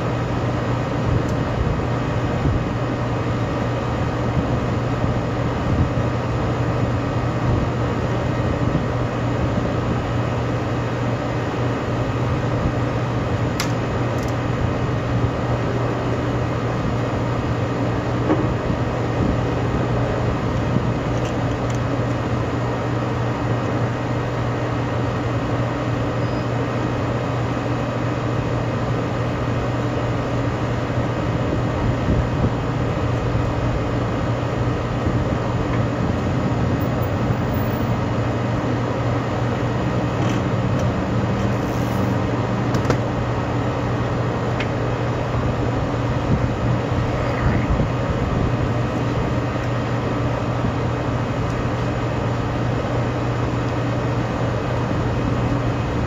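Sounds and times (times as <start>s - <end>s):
ventilation equipment drone: 0.0s - 56.0s.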